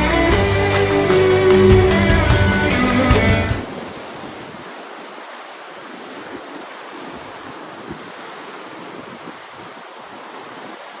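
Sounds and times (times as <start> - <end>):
ocean waves washing in: 0.0 - 11.0
wind bumps on microphone: 0.3 - 5.2, 5.9 - 11.0.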